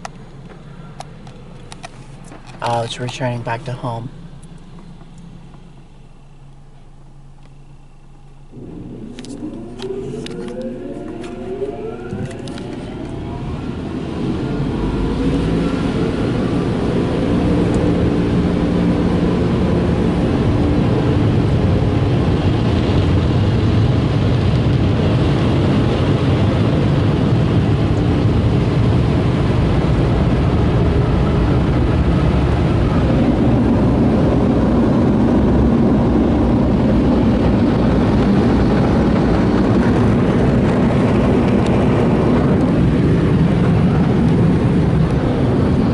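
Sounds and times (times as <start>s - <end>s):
car wash blower dryers whining: 0.0s - 45.9s.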